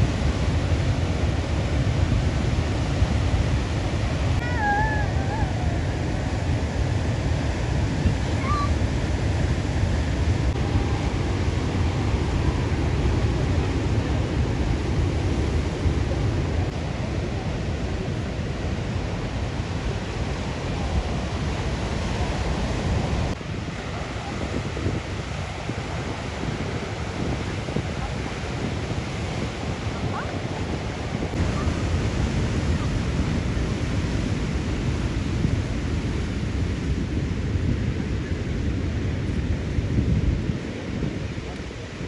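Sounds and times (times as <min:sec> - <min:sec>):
surf washing onto beach: 0:00.0 - 0:42.0
wind rumbling on microphone: 0:00.0 - 0:42.0.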